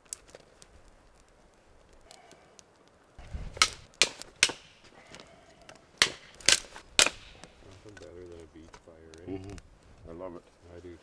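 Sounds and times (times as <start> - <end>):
dry sticks snapping: 0.0 - 9.9
campfire crackling: 0.0 - 11.0.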